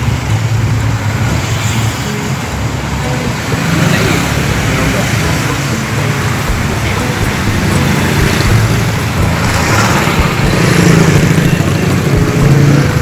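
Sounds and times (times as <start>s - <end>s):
motorcycles and cars passing: 0.0s - 13.0s.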